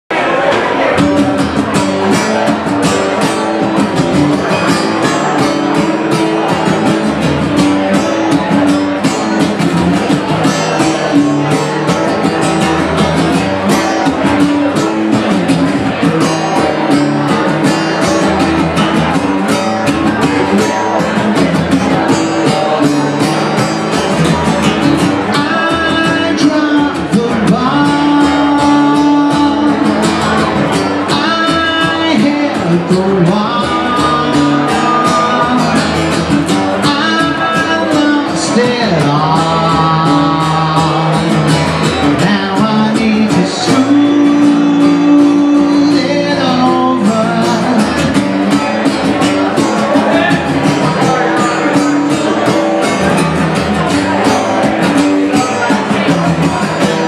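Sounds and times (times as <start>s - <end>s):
acoustic guitar playing: 0.1s - 57.0s.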